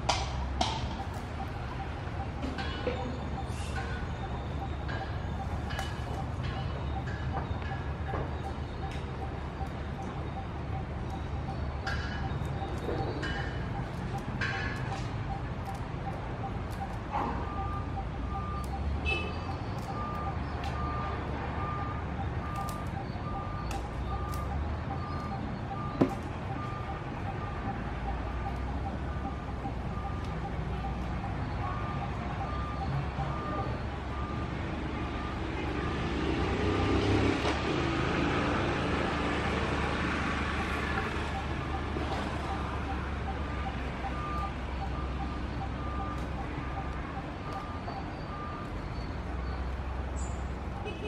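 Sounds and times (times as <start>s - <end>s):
low engine rumble: 0.0s - 36.6s, 37.3s - 51.0s
reversing alarm beeps: 0.3s - 37.3s, 39.7s - 51.0s.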